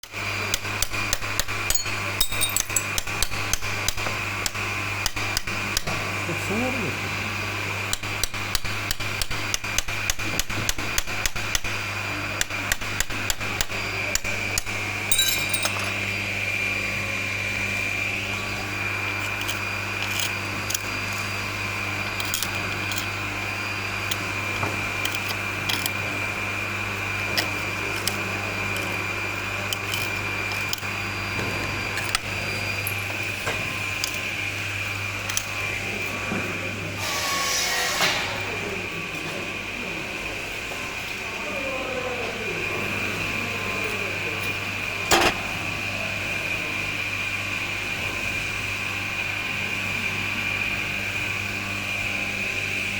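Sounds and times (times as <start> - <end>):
steady electric hum: 0.4 - 8.8, 11.1 - 47.8.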